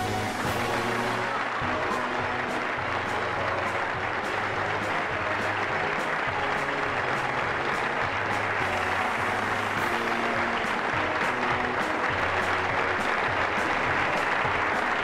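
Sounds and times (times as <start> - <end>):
background music: 0.0 - 15.0
crowd applauding: 0.0 - 15.0.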